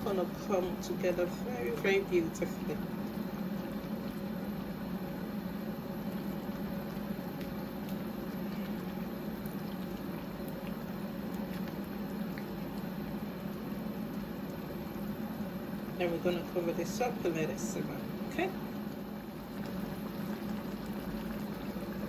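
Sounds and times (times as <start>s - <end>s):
pot of stew bubbling: 0.0s - 22.0s.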